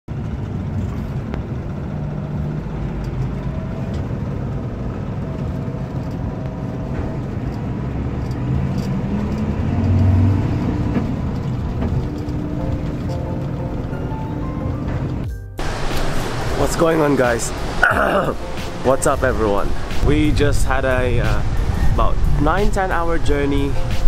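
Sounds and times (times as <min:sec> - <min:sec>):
bus engine drone: 0:00.1 - 0:24.0
road rumble: 0:00.1 - 0:24.0.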